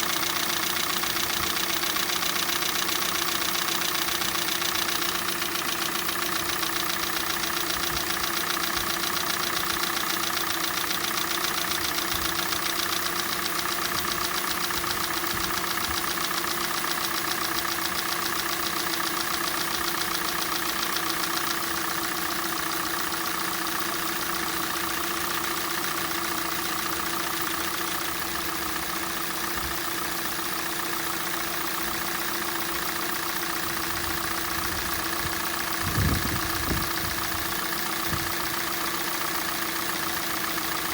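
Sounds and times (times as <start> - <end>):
car engine idling with knock: 0.0 - 40.9.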